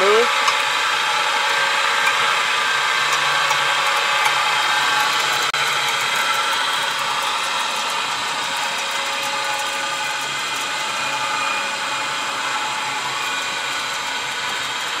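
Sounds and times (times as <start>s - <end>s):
electric motor whine: 0.0s - 15.0s.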